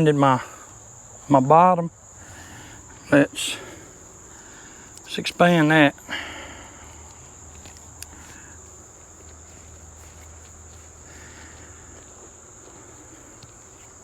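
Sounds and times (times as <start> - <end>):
insects chirring: 0.0 - 14.0
soft rustles: 2.3 - 14.0.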